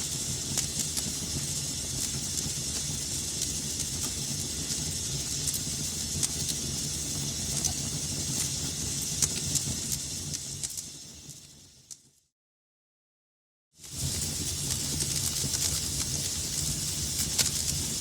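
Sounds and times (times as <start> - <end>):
fire crackling and popping: 0.0 - 12.1, 13.8 - 18.0.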